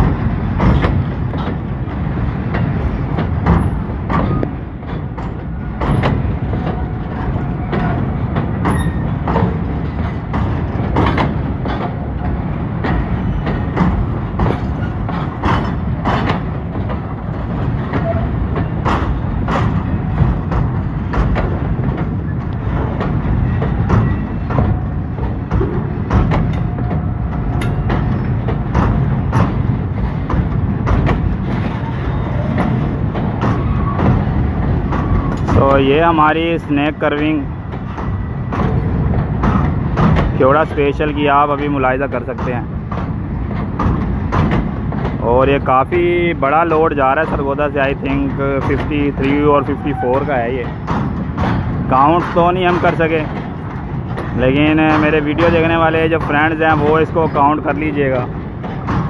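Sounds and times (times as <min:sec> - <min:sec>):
freight wagons rumbling: 0:00.0 - 0:59.0
wheels clanking over rail joints: 0:00.0 - 0:59.0.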